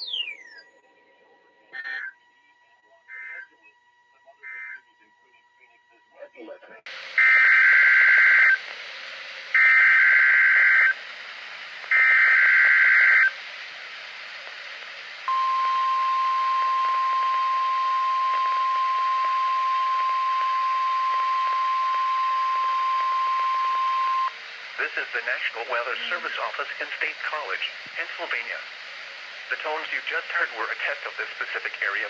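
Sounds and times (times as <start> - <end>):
radio hiss: 3.0 - 32.0.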